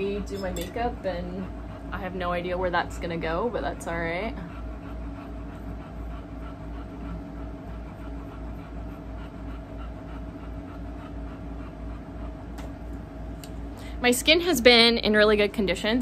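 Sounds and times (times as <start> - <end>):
dog panting heavily: 0.0 - 13.3
faint steady hum: 0.0 - 16.0.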